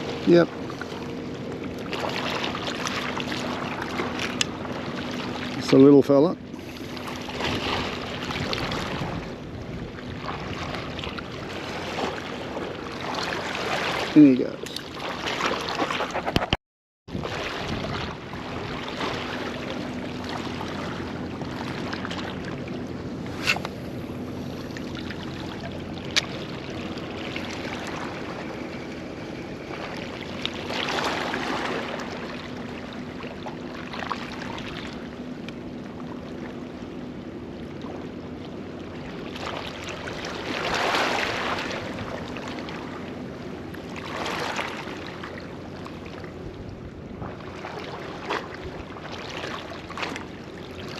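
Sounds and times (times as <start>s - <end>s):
water lapping around a boat: 0.0s - 50.9s.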